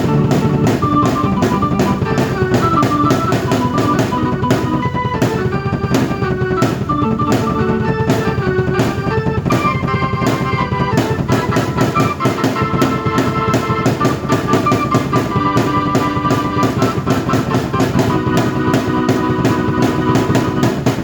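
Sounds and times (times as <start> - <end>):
drum kit beat: 0.0 - 21.0
keyboard melody and chords: 0.0 - 21.0.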